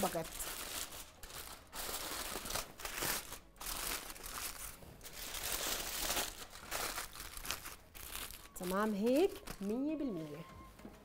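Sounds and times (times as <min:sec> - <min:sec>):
foil crinkling: 0:00.0 - 0:10.0.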